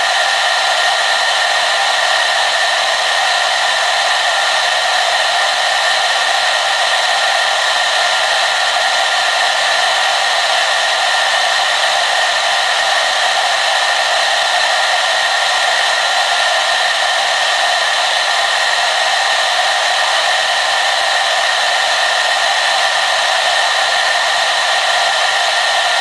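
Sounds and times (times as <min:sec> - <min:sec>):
hair dryer blowing air: 0:00.0 - 0:26.0.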